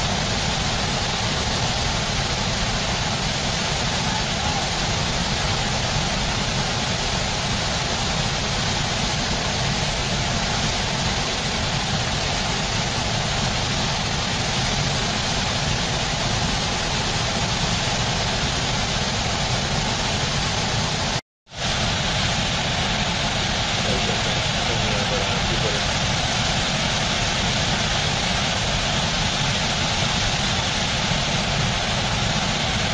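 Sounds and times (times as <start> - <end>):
river rapids rushing: 0.0 - 32.9.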